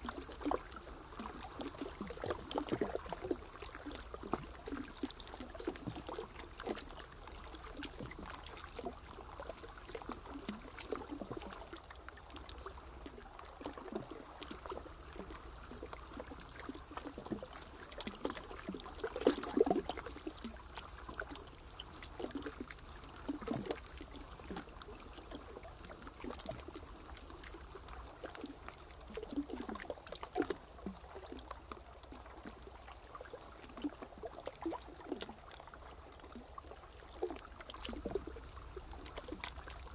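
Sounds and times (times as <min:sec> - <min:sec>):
small splashes: 0:00.0 - 0:39.9
water lapping and trickling: 0:00.0 - 0:39.9.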